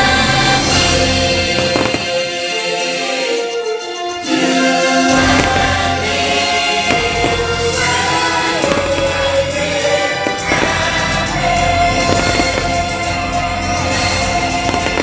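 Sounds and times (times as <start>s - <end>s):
fireworks bangs: 0.0s - 2.5s, 5.1s - 15.0s
choir singing over orchestral music: 0.0s - 15.0s.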